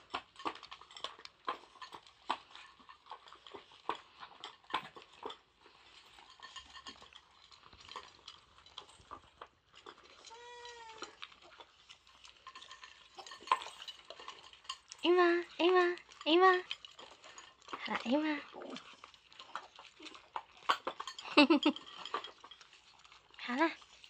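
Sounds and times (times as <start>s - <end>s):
dogs eating from metal bowls: 0.0s - 24.0s.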